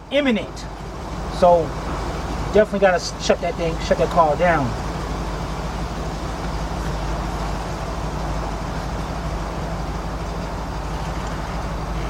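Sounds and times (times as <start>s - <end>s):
car engine misfiring: 0.0s - 12.0s.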